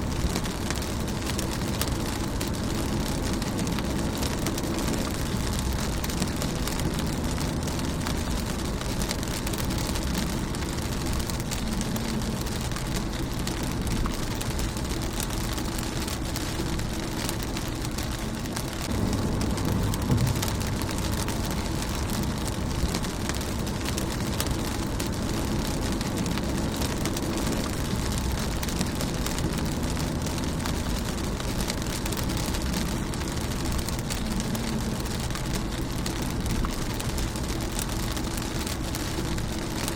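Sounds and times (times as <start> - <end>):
low rumble: 0.0 - 39.9
rain pattering on windshield: 0.0 - 39.9.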